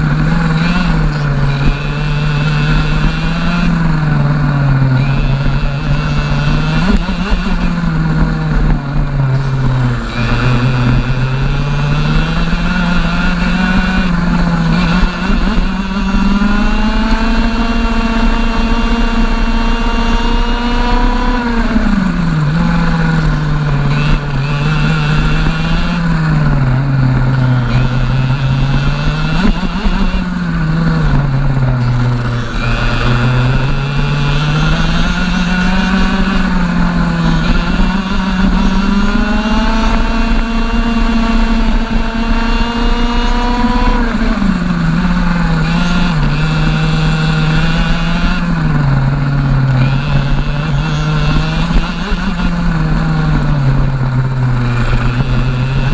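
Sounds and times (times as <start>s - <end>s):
two-stroke kart engine racing: 0.0s - 55.9s.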